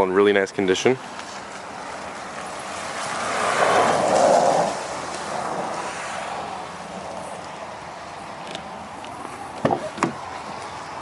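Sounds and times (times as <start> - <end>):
outdoor background noise: 0.0 - 11.0
vehicle passing by: 1.3 - 11.0.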